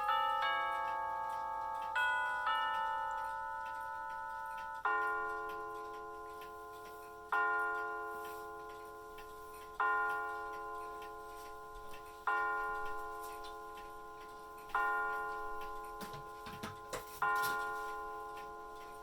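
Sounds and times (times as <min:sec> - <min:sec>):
clock chime striking bell tone: 0:00.0 - 0:19.0.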